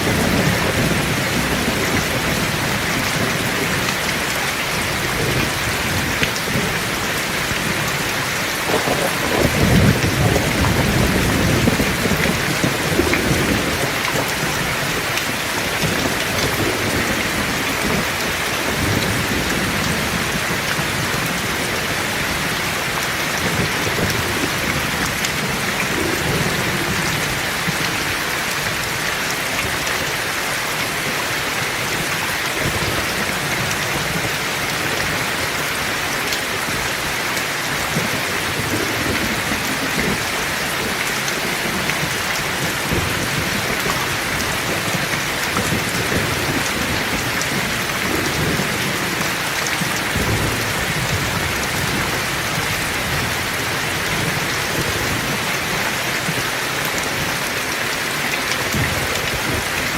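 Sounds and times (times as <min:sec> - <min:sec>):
low thunder rumbling: 0:00.0 - 0:29.9, 0:37.9 - 0:56.4
heavy rain falling: 0:00.0 - 0:59.9.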